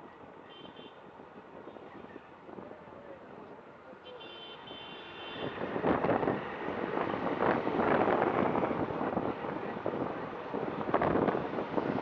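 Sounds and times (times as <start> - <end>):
motorcycle road and wind noise: 0.0 - 12.0.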